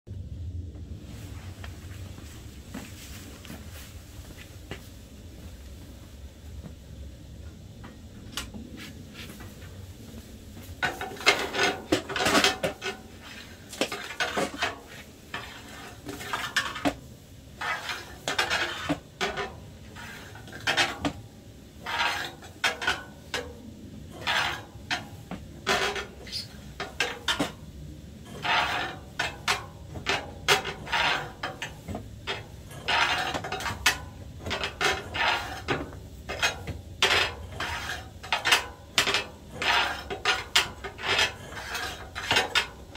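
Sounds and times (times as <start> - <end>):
metal clattering and scraping: 7.6 - 42.9.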